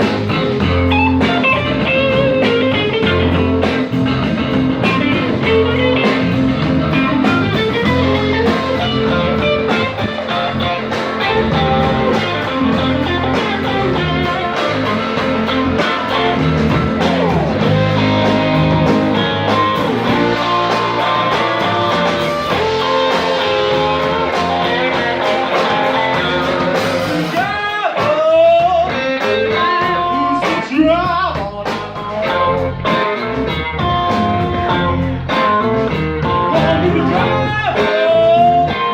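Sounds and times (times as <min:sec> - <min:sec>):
guitar bending notes: 0:00.0 - 0:27.7, 0:31.4 - 0:38.9
blues-rock band playing live: 0:00.0 - 0:38.9.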